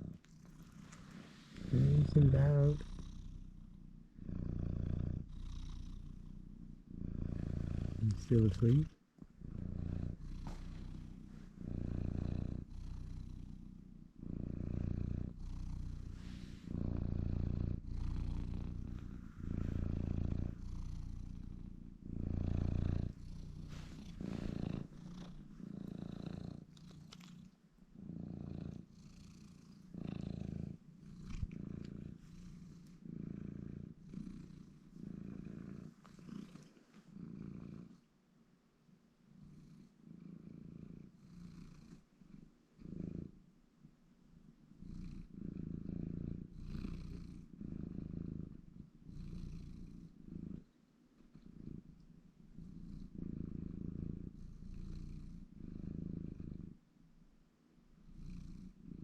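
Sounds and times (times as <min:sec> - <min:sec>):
cat snoring: 0:00.0 - 0:38.1, 0:39.3 - 0:43.5, 0:44.4 - 0:56.8, 0:58.0 - 0:59.0.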